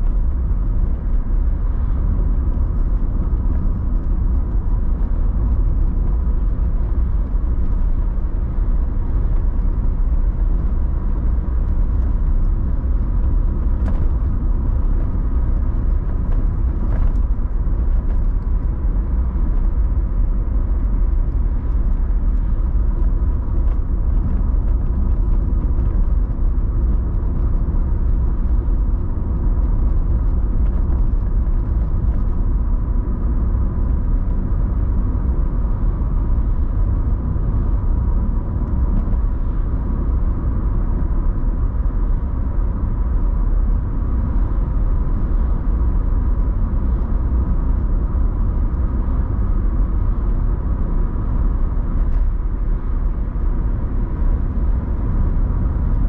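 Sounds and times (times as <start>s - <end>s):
car tyres and engine rumbling: 0.0s - 56.0s
faint steady whine: 0.0s - 56.0s.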